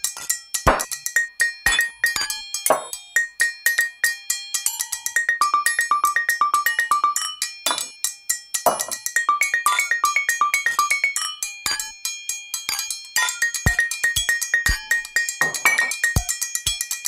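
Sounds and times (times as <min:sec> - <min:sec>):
upbeat music with bright notes: 0:00.0 - 0:17.0.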